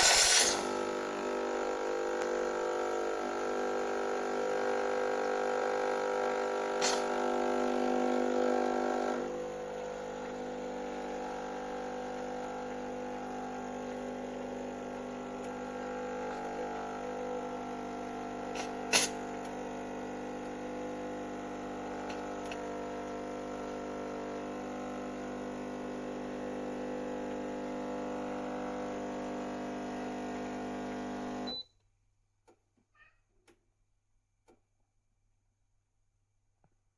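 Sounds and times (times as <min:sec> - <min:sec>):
espresso machine pump humming: 0:00.0 - 0:31.5.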